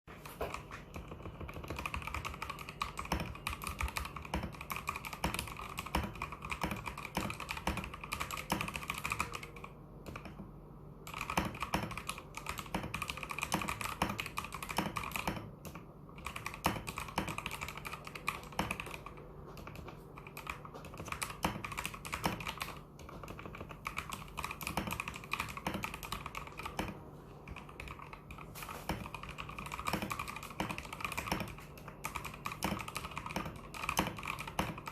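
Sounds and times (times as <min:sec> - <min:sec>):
mechanical keyboard typing: 0:00.1 - 0:34.9.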